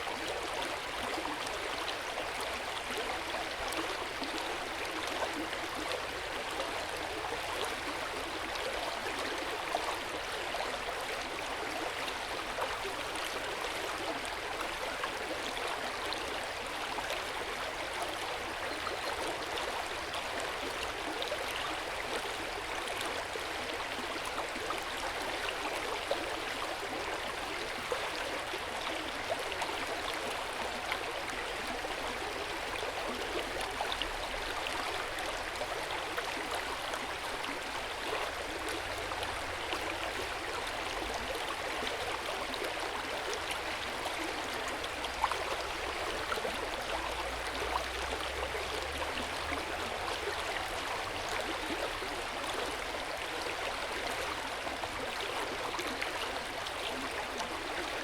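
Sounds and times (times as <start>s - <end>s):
hot spring water flowing: 0.0s - 58.0s.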